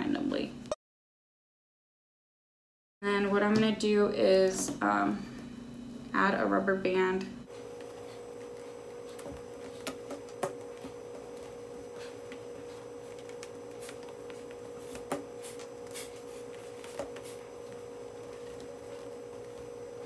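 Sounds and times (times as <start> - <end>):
steady electrical hum: 0.0 - 0.8, 3.0 - 20.0.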